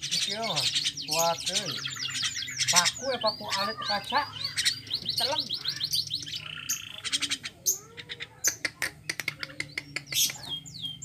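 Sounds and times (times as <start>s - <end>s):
myna calling: 0.0s - 10.8s.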